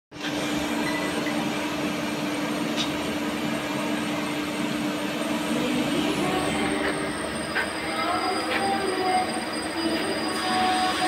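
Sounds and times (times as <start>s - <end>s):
lathe running hum: 0.2s - 11.0s.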